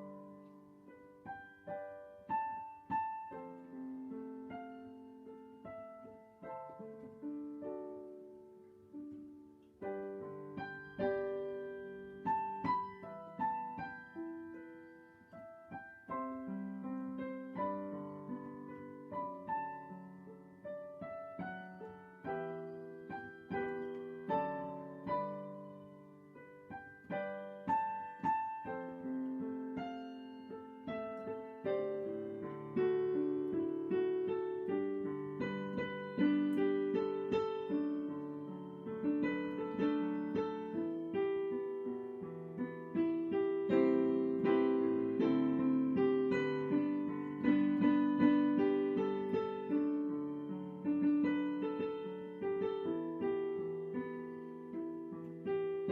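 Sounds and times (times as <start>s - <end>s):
slow gentle piano piece: 0.0s - 55.9s.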